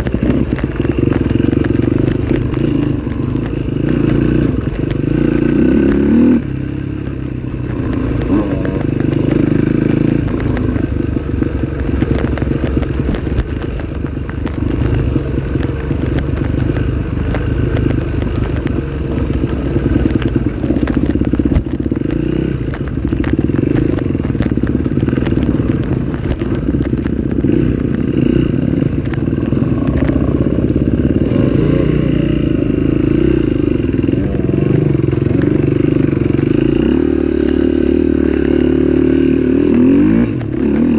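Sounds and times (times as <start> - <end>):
bike rattling over rough ground: 0.0 - 40.9
motorcycle engine revving: 0.0 - 40.9.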